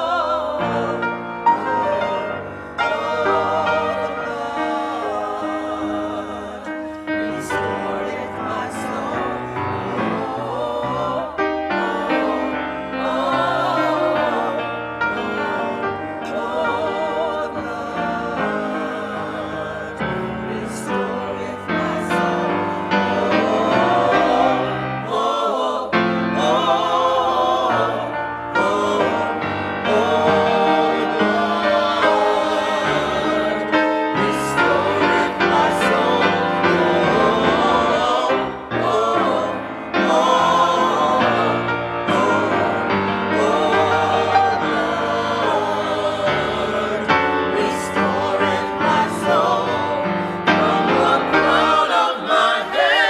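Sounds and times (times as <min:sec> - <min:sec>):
choir singing with vibrato: 0:00.0 - 0:53.0
held instrumental accompaniment: 0:00.0 - 0:53.0.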